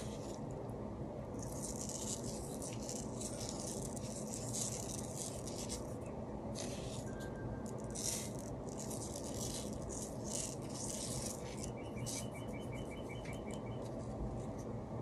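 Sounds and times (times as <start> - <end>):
scratchy rubbing and rustling: 0.0 - 0.4, 1.4 - 6.0, 6.6 - 14.1
steady low background noise: 0.0 - 15.0.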